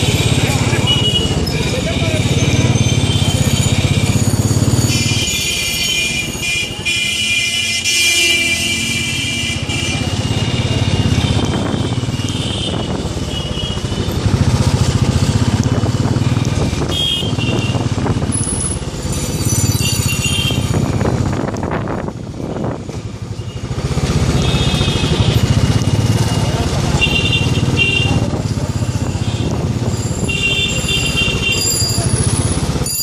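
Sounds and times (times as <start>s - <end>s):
motorbike engine running: 0.0s - 7.1s, 8.8s - 33.0s
street traffic: 0.0s - 33.0s.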